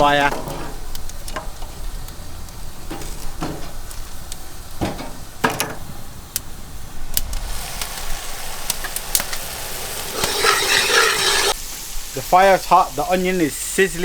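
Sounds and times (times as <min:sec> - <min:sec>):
fire crackling: 0:00.0 - 0:14.0
frying hiss: 0:00.0 - 0:14.0.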